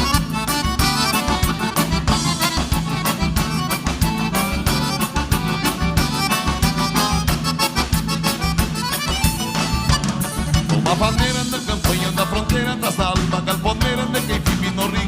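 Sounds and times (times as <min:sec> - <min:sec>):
accordion dance music: 0:00.0 - 0:15.0
bass: 0:00.0 - 0:15.0
steady drum beat: 0:00.0 - 0:15.0.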